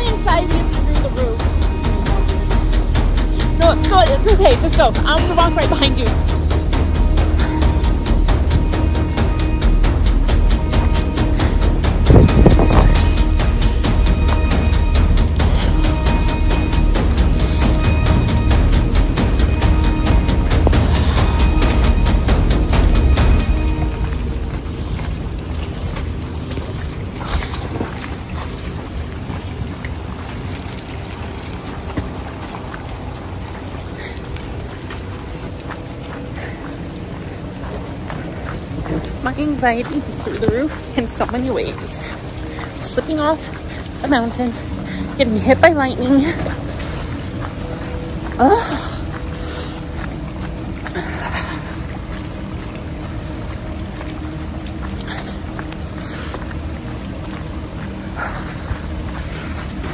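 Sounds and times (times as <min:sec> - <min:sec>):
raindrops ticking: 0:00.0 - 0:59.9
steady rain: 0:00.0 - 0:59.9
vehicle driving on wet road: 0:00.0 - 0:59.9.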